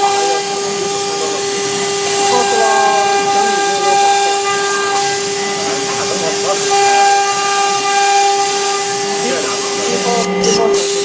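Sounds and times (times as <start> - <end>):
router spindle whining: 0.0 - 11.0
steady hiss: 0.0 - 11.0.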